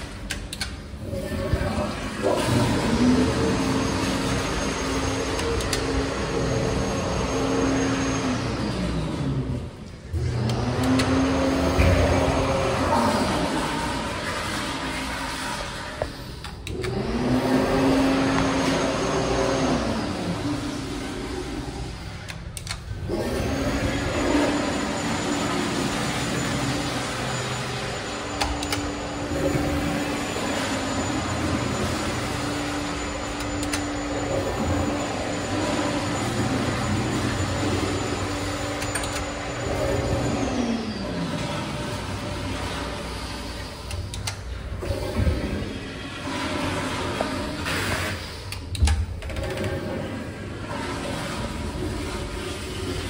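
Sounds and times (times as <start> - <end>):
low whine from flush valve: 0.0 - 53.0
toilet flushing water rush: 0.0 - 53.0.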